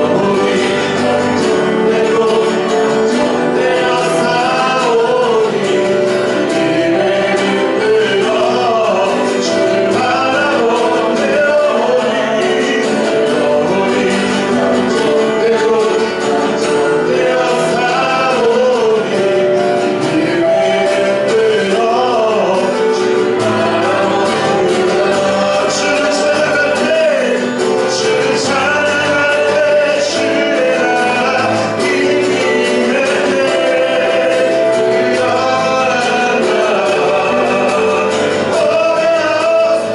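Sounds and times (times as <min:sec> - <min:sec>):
instrumental accompaniment: 0:00.0 - 0:39.9
people singing worship song: 0:00.0 - 0:39.9.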